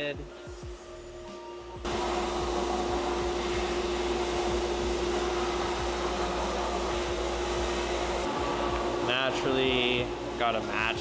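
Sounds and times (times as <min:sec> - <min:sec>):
steady hum: 0:01.7 - 0:11.0
compressed air and grit blasting: 0:01.9 - 0:11.0.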